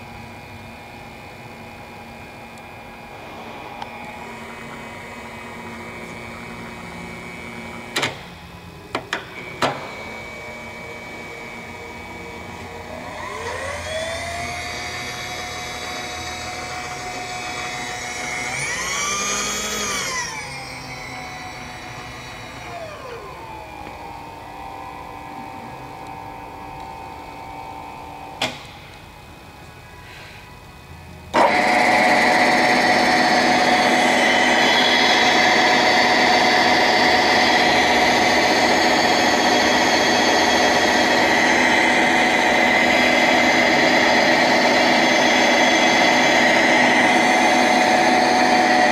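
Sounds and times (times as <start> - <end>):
power feed motor whine: 0.0 - 29.9, 31.2 - 48.9
steady machine hum: 0.0 - 48.9.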